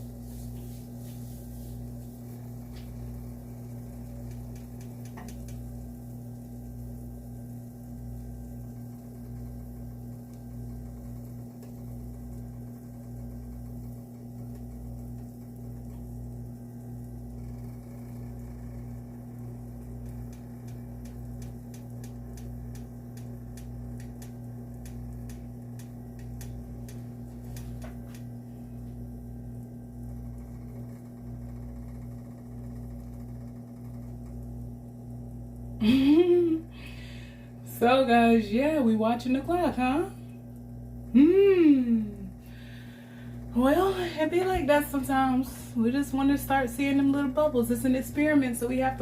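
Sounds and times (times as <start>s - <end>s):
low kitchen hum: 0.0s - 49.0s.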